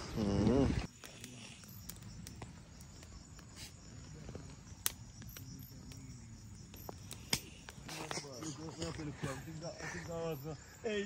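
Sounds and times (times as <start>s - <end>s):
burning grass crackling: 0.0s - 11.0s
insects chirping: 0.0s - 11.0s.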